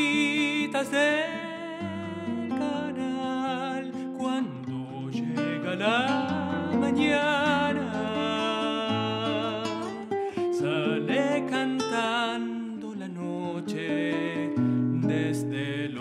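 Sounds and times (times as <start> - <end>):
acoustic guitar accompaniment: 0.0 - 16.0.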